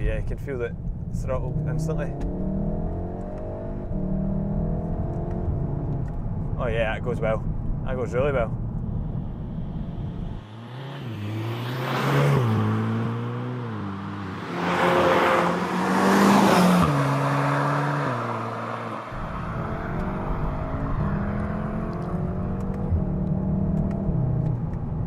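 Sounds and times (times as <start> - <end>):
car engine revving under throttle: 0.9 - 6.2, 8.8 - 24.8.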